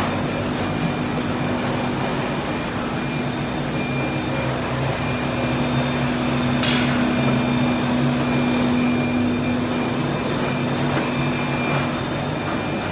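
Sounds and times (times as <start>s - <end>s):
binding machine humming: 0.0s - 12.9s.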